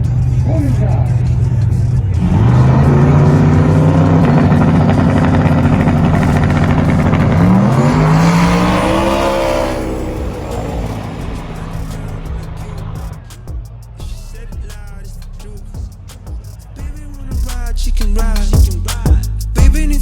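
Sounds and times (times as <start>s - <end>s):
truck engine running hard: 0.0s - 17.7s.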